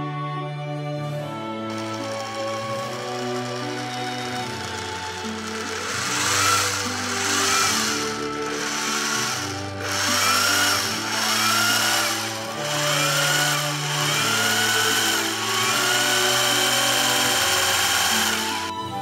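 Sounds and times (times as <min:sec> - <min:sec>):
background music: 0:00.0 - 0:19.0
sewing machine whir and clatter: 0:01.3 - 0:19.0.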